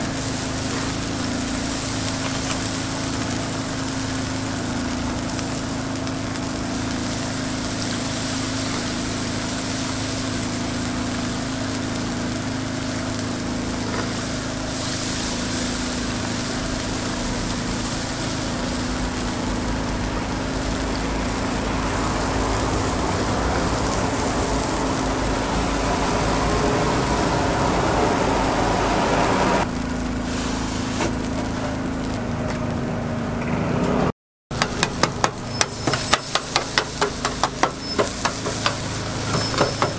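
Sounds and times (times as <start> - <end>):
batter sizzling on grill plate: 0.0 - 32.8, 34.5 - 39.9
steady mechanical hum: 0.0 - 39.9.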